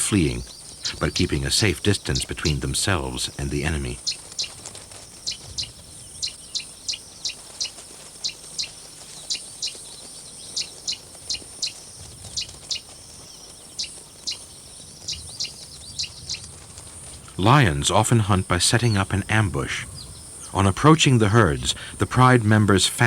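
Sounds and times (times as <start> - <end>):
faint steady high hiss: 0.0 - 23.0.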